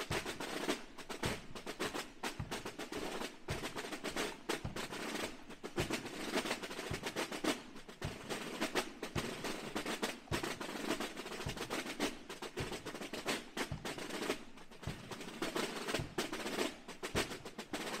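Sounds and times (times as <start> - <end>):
snare drums beating: 0.0 - 18.0.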